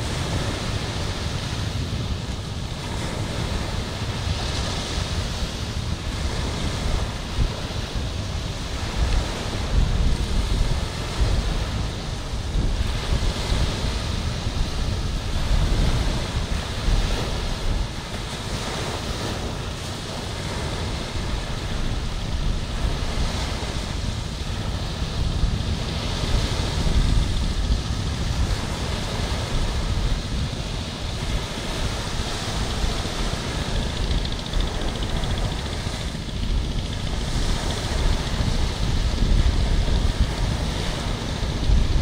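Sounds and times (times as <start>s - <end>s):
small waves breaking on beach: 0.0s - 42.0s
wind buffeting microphone: 0.0s - 42.0s.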